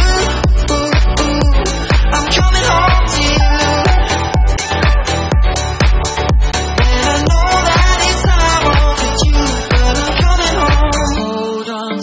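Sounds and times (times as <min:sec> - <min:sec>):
electronic dance-pop music: 0:00.0 - 0:12.0.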